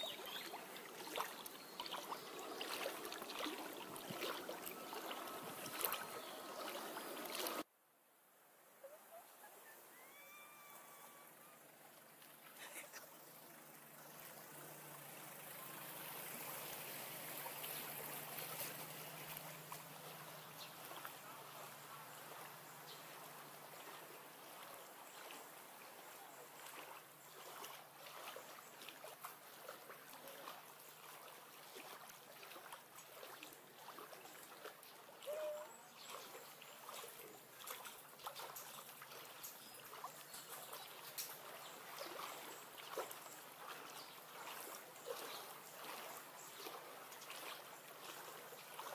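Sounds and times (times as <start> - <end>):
floodwater sloshing and trickling: 0.0 - 7.7, 11.4 - 48.9
small water splashes: 0.0 - 7.7, 10.8 - 48.9.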